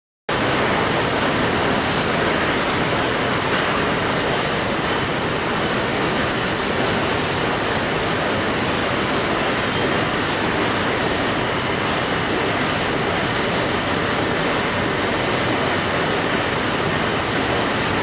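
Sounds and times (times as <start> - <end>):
machine rattling and clattering: 0.3 - 18.0.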